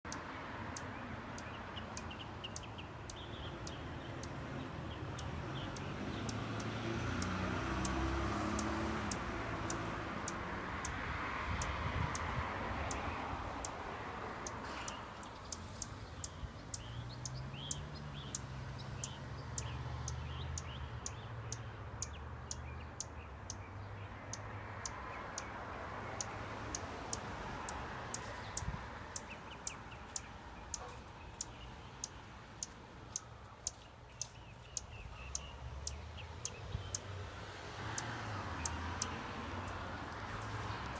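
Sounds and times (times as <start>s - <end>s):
hummingbird ticking notes: 0.1s - 40.9s.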